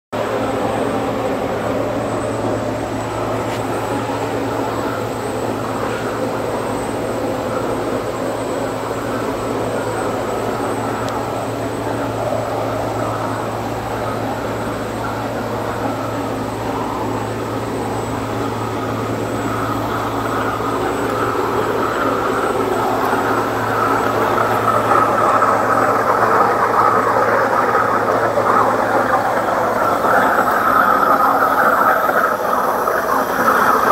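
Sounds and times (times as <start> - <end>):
pump low hum: 0.2 - 33.9
waterjet rushing noise: 0.2 - 33.9.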